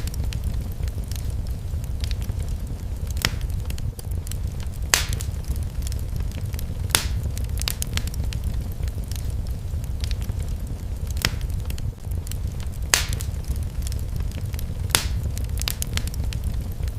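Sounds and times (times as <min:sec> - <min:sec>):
fire crackling and popping: 0:00.0 - 0:16.9
fire rumbling: 0:00.0 - 0:16.9.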